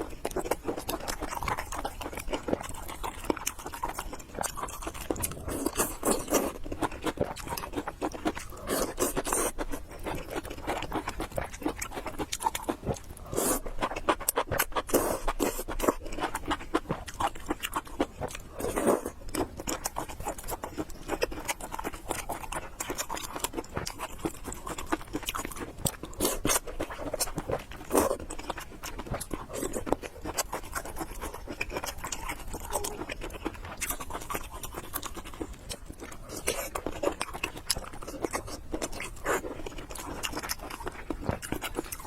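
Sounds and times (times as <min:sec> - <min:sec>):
chewing noodles: 0:00.0 - 0:42.0.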